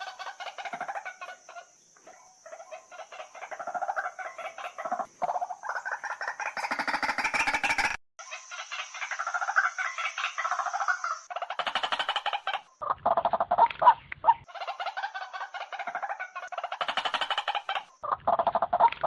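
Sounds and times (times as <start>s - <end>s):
bird croaking calls: 0.0s - 19.0s.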